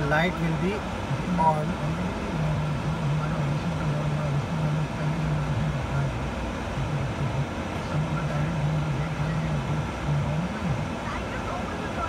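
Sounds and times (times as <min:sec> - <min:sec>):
low voice talking indistinctly: 0:00.0 - 0:12.0
steady hum: 0:00.0 - 0:12.0.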